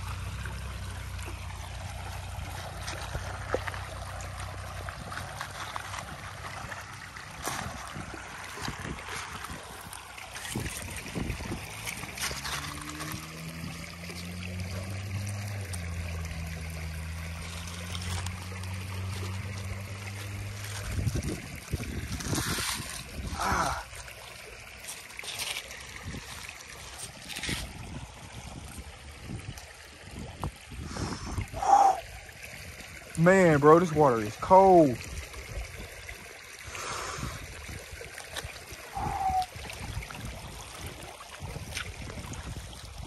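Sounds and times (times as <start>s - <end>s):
splashing of wading feet: 0.0s - 30.6s, 37.8s - 43.0s
creek water running over gravel: 0.0s - 43.0s.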